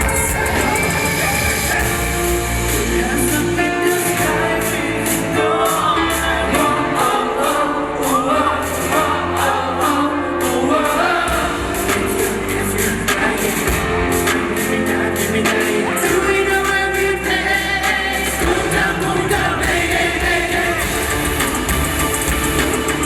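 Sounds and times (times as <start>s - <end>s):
live pop band through pa: 0.0s - 23.0s.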